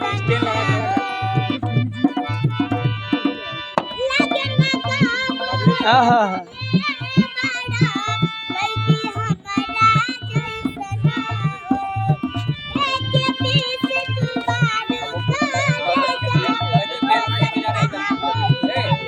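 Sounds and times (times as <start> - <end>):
girl singing: 0.0 - 2.4, 4.0 - 19.0.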